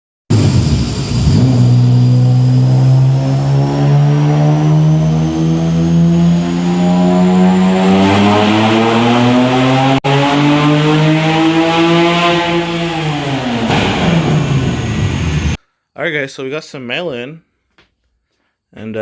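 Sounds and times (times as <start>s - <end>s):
car engine running hard: 0.3s - 15.6s.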